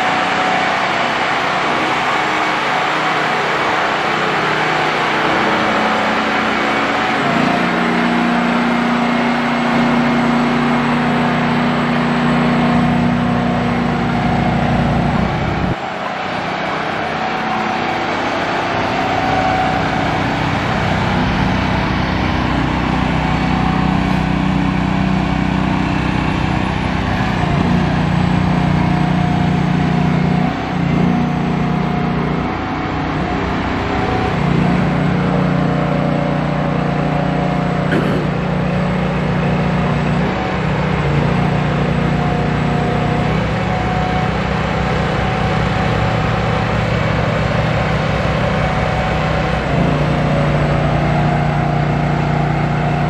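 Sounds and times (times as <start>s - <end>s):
truck diesel engine running: 0.0s - 53.0s.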